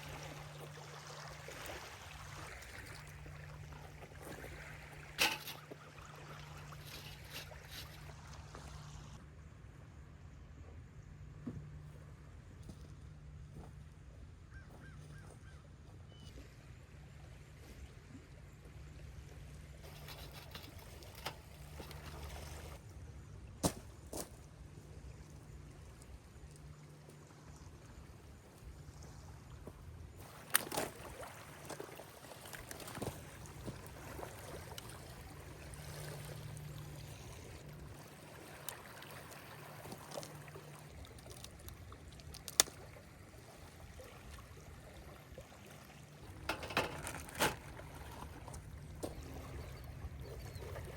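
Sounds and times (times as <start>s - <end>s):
water lapping: 0.0s - 9.2s, 17.0s - 22.8s, 24.8s - 50.9s.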